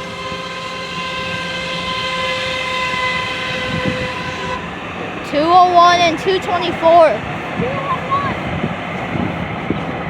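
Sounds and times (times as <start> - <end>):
light rail train whine: 0.0 - 10.0.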